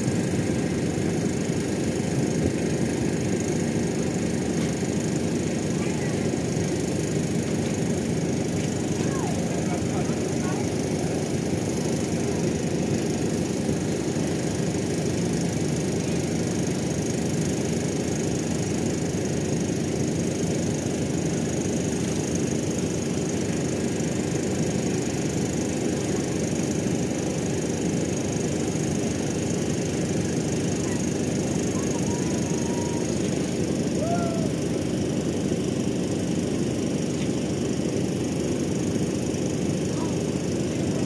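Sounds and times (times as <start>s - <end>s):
low engine rumble: 0.0s - 41.0s.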